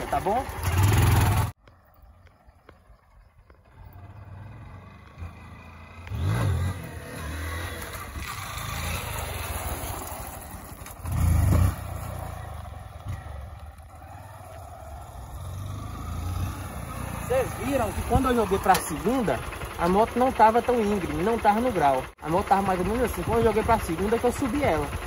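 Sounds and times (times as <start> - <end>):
motorcycle engine revving: 0.0 - 1.6, 3.5 - 25.0.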